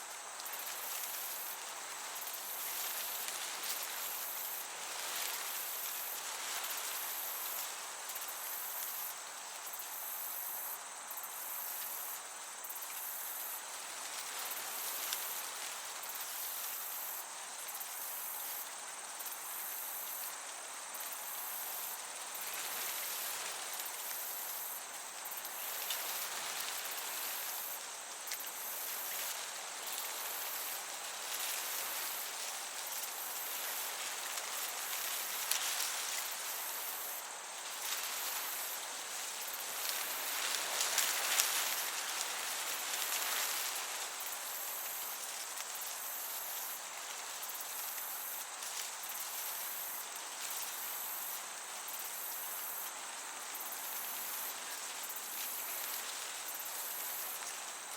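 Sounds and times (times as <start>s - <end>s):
crickets chirping: 0.0s - 57.9s
gentle breeze: 0.0s - 57.9s
high insect tone: 0.0s - 57.9s.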